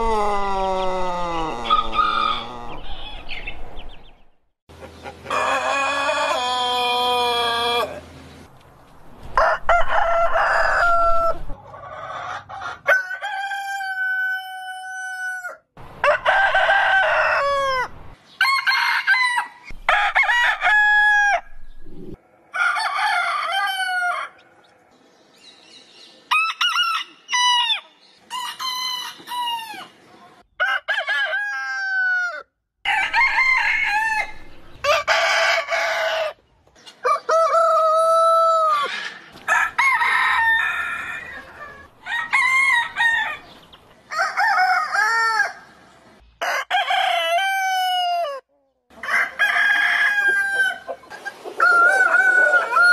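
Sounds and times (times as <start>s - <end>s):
roosters crowing: 0.0s - 3.5s, 5.0s - 8.1s, 9.3s - 24.5s, 30.6s - 36.4s, 37.0s - 45.8s, 46.4s - 52.9s.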